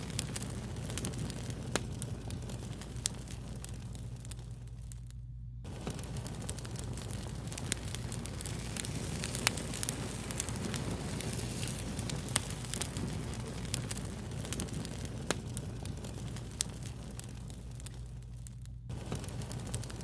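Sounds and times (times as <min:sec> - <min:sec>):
steady low rumble: 0:00.0 - 0:20.0
wood fire crackling: 0:00.0 - 0:20.0.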